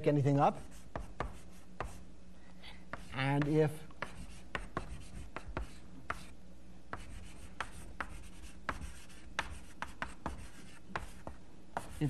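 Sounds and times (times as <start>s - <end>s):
chalk scratching: 0.4s - 2.1s, 2.9s - 12.0s
chalk tapping on blackboard: 0.6s - 2.0s, 2.9s - 12.0s.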